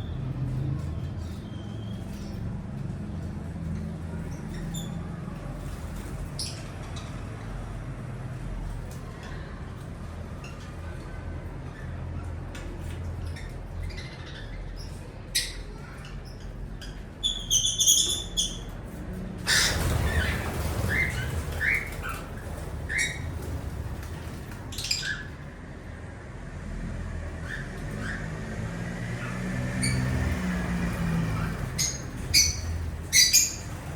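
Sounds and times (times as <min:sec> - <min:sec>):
birds chirping and squawking: 0:00.0 - 0:25.7, 0:27.2 - 0:33.9.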